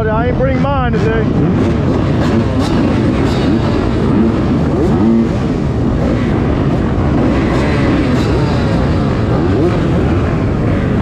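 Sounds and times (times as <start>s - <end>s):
dirt bike engine revving: 0.0s - 11.0s
steady rush of noise: 0.0s - 11.0s.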